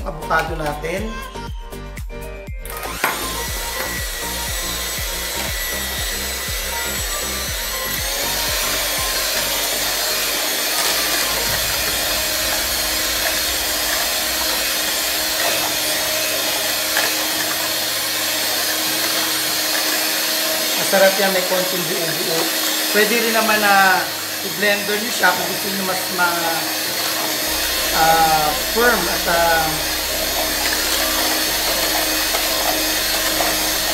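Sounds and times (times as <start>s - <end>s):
electric hand mixer running: 0.0s - 33.9s.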